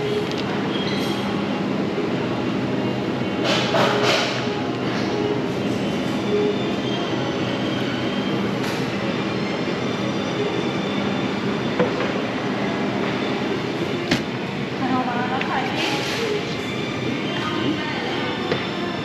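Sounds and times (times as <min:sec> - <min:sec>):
refrigerator fans humming: 0:00.0 - 0:19.0.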